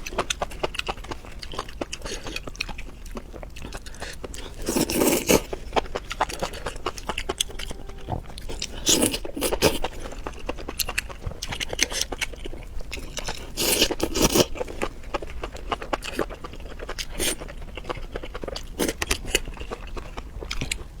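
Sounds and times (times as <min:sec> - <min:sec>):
crunching and chewing: 0:00.0 - 0:21.0.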